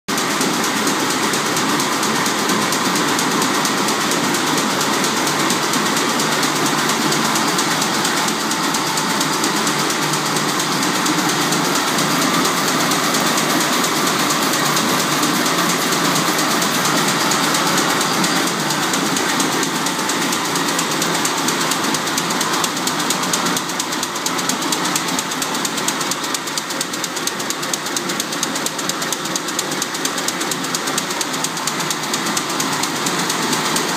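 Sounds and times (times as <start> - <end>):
loom machine clattering: 0.1 - 33.9.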